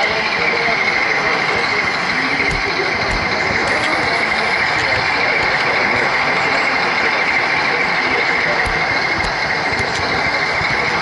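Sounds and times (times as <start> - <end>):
model train running on rails: 0.0 - 11.0.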